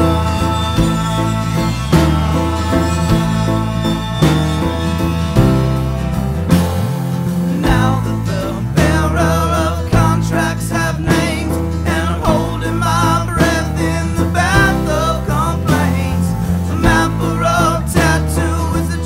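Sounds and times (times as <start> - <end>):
band song with guitar and bass: 0.0 - 19.0.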